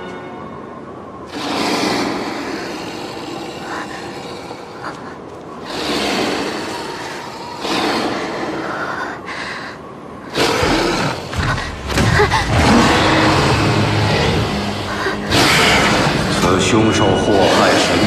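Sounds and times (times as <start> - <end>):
steady low rumble: 0.1 - 18.0.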